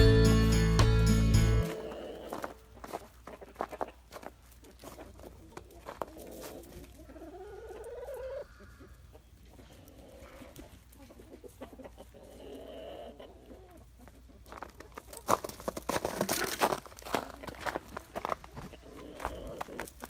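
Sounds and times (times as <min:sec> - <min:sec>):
chickens clucking: 0:01.6 - 0:20.0.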